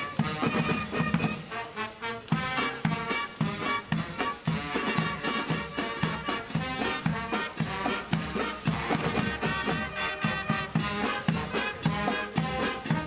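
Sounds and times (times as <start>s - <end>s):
brass marching band playing: 0.0s - 13.0s
steady drumbeat: 0.0s - 13.0s.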